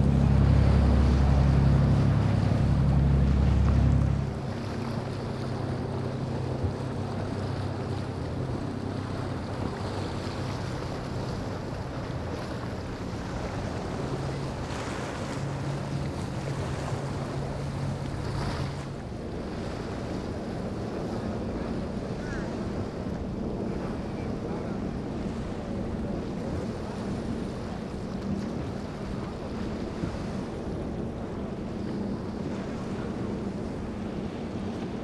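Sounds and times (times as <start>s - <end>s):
motorboat engines droning: 0.0s - 35.0s
rushing water and waves: 0.0s - 35.0s.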